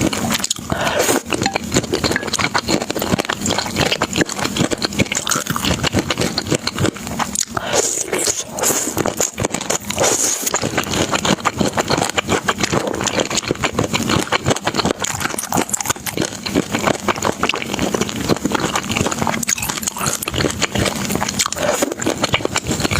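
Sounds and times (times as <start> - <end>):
person chewing and slurping: 0.0 - 22.9.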